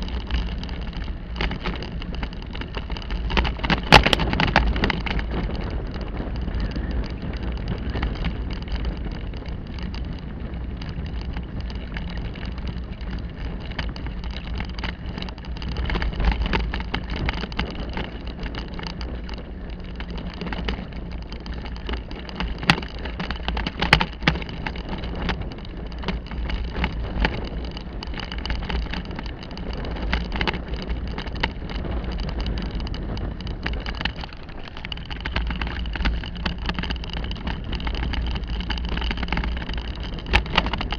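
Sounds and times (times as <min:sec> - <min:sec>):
bicycle rumbling and rattling: 0:00.0 - 0:40.9
wind noise: 0:00.0 - 0:40.9.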